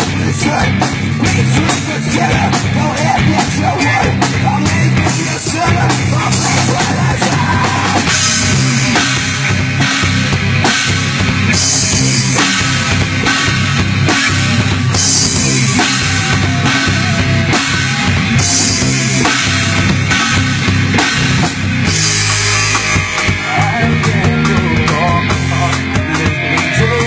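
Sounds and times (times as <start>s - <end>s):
rock band playing: 0.0s - 27.0s.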